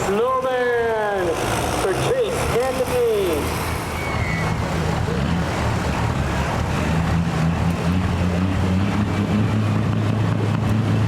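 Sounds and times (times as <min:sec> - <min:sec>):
engine running hard under load: 0:00.6 - 0:11.0.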